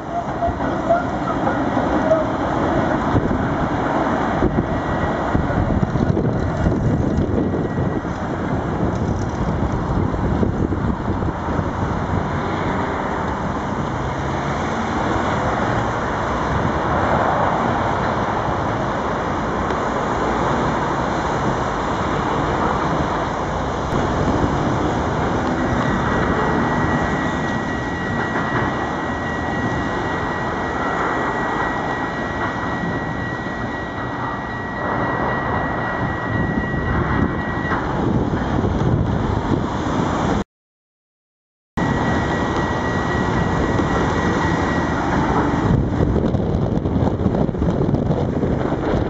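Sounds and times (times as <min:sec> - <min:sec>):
steady high-pitched whine: 0:00.0 - 0:40.4, 0:41.8 - 0:49.0
street traffic: 0:00.0 - 0:40.4, 0:41.8 - 0:49.0
trams running: 0:00.0 - 0:40.4, 0:41.8 - 0:49.0.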